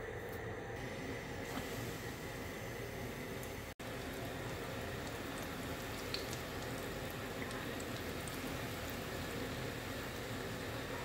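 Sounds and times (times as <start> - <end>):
hot oil bubbling and sizzling: 0.8 - 11.0.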